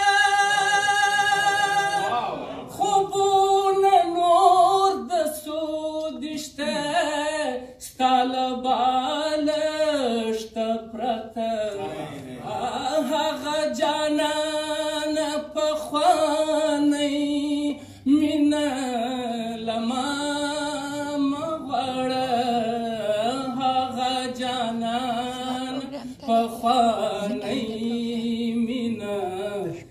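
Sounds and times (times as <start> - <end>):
man singing unaccompanied: 0.0 - 2.1, 2.8 - 11.8, 12.5 - 29.9.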